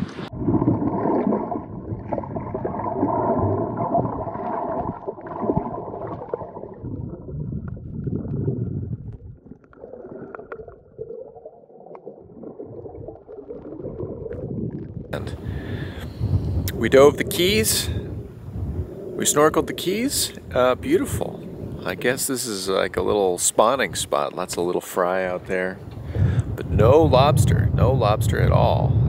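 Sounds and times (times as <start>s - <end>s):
underwater water gurgling: 0.0s - 23.4s.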